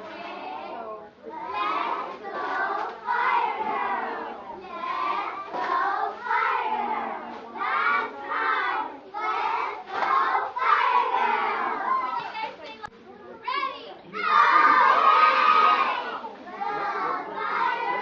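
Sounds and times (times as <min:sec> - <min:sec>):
girls chanting a cheer: 0:00.0 - 0:12.7, 0:14.1 - 0:18.0.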